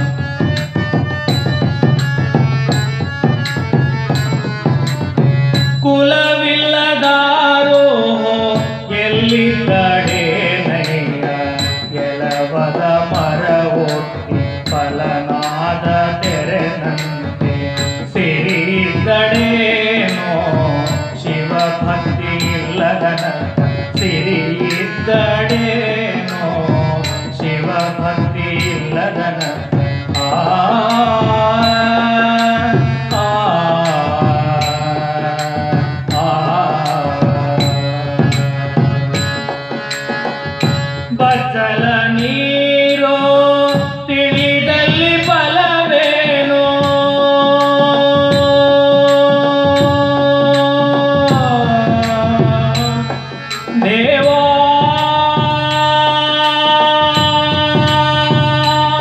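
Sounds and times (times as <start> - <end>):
hand frame drum beat: 0.0 - 59.0
harmonium: 0.0 - 59.0
man singing into microphone: 0.0 - 59.0.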